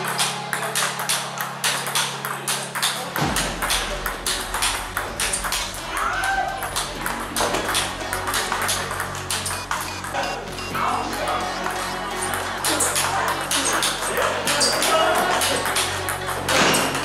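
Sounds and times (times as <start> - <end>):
ping pong balls clicking off paddles: 0.0 - 17.0.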